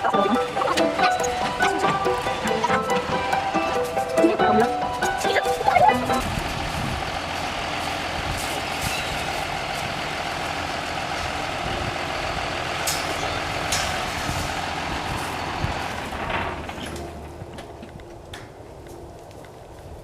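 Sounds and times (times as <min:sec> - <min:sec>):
vehicle engine running: 0:00.0 - 0:18.2.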